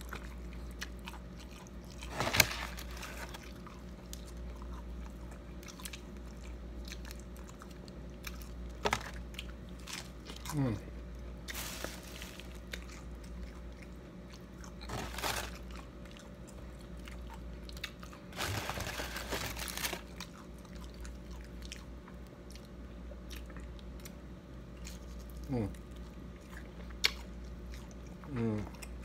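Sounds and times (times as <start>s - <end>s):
crunchy chewing of fried fish: 0.0s - 29.0s
steady low hum: 0.0s - 29.0s.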